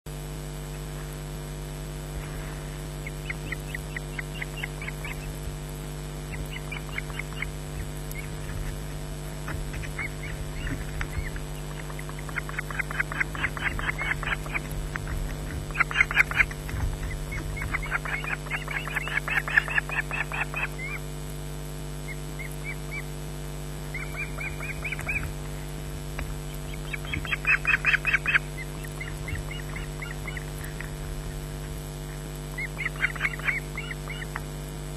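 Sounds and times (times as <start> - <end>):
steady electrical hum: 0.1 - 34.9
ospreys chirping: 2.3 - 21.3, 21.9 - 34.6.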